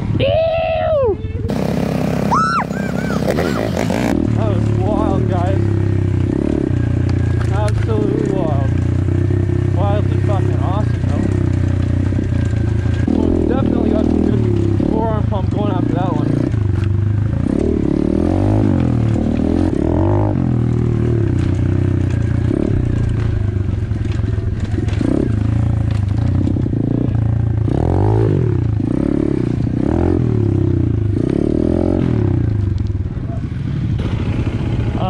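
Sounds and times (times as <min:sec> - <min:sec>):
motorbike engine revving: 0:01.5 - 0:35.0.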